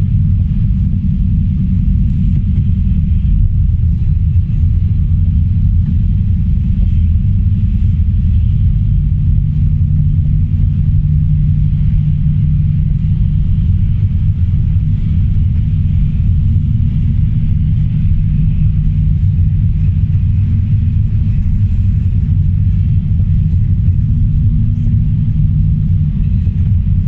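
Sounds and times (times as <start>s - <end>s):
car engine and road noise: 0.0s - 27.0s
low hum: 0.0s - 27.0s.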